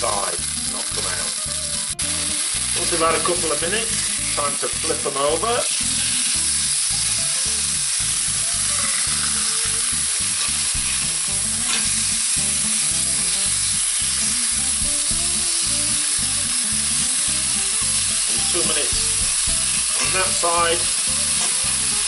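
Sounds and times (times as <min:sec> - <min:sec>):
steaks sizzling in frying pan: 0:00.0 - 0:22.0
tongs turning meat: 0:00.0 - 0:22.0.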